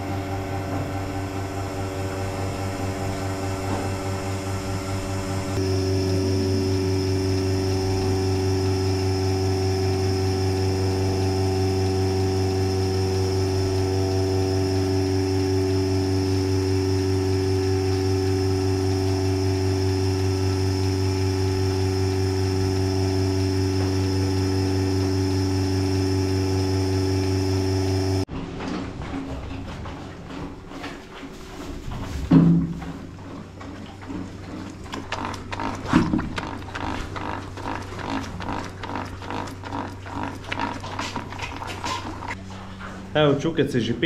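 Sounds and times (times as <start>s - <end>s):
electric motor pump humming: 0.0s - 28.3s, 33.0s - 43.6s.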